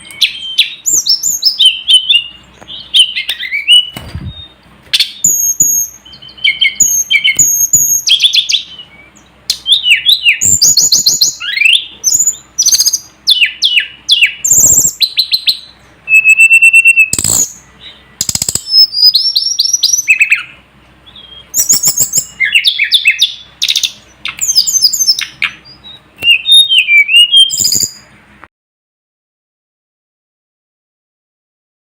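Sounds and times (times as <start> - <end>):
bird singing whistles and chirps: 0.0 - 28.2.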